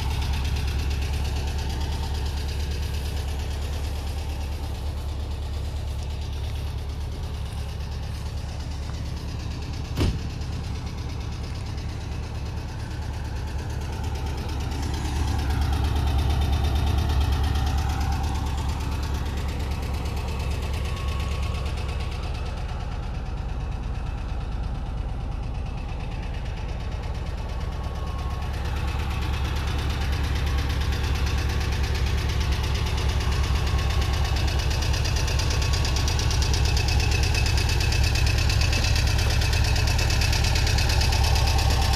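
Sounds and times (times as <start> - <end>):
van engine idling: 0.0 - 41.9.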